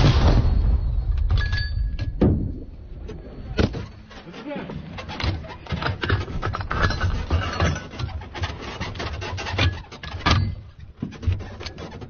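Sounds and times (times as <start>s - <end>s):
metal clatter and scraping: 1.1s - 12.0s.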